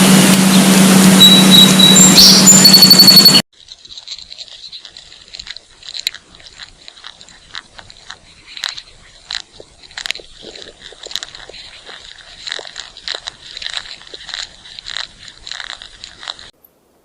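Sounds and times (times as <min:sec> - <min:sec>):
animal chewing and crunching: 0:00.3 - 0:16.6.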